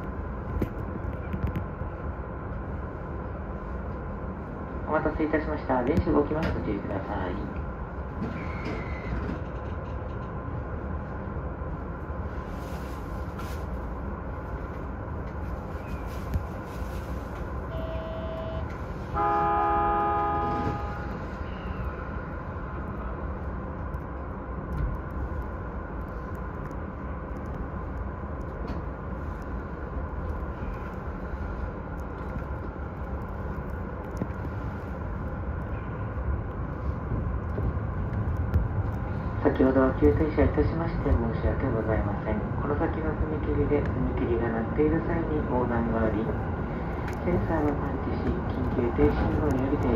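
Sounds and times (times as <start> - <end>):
train interior low rumble: 0.0 - 49.9.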